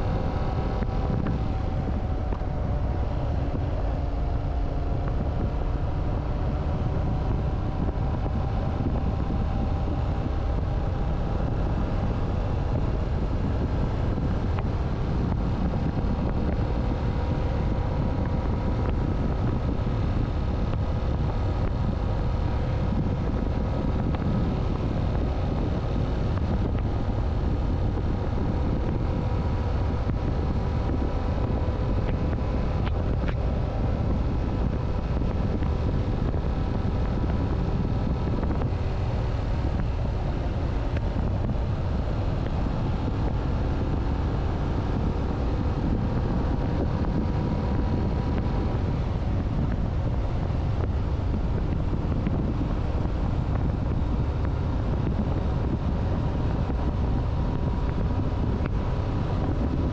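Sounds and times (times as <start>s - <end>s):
motorcycle engine cruising: 0.0s - 59.9s
wind rush over microphone: 0.0s - 59.9s.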